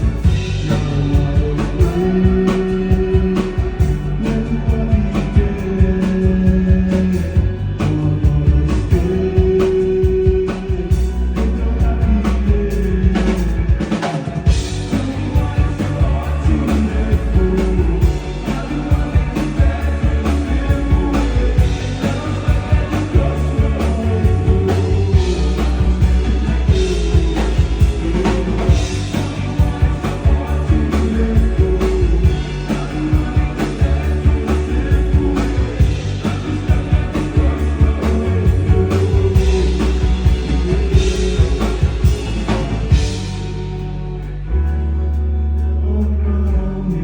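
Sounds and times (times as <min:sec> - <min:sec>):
person singing: 0:00.0 - 0:44.2, 0:45.4 - 0:47.0
live band playing slow rock: 0:00.0 - 0:47.0.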